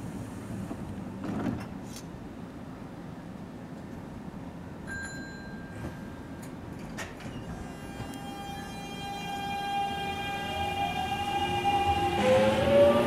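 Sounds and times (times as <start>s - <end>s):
electric train low rumble: 0.0s - 13.0s.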